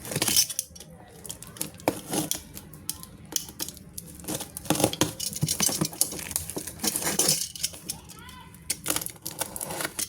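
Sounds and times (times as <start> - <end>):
small objects clicking and clinking: 0.0 - 10.0.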